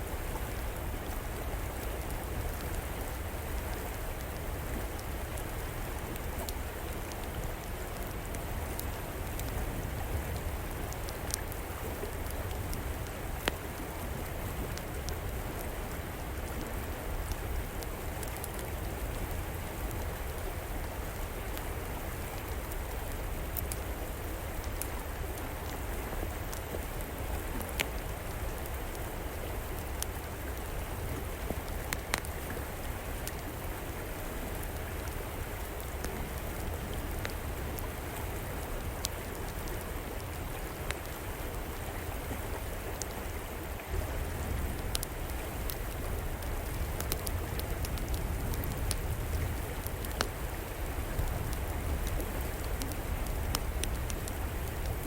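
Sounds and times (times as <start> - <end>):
wood fire crackling: 0.2 - 43.1, 44.4 - 55.0.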